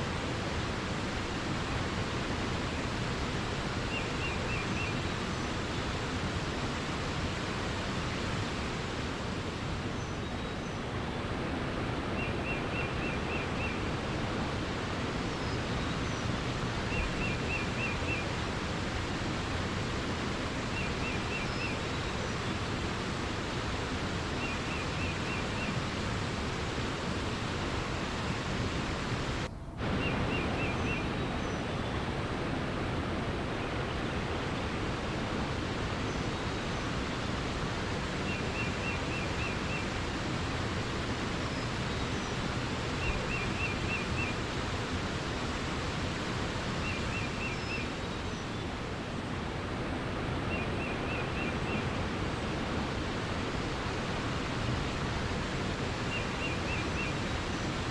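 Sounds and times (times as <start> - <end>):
flowing water rushing: 0.0 - 57.9.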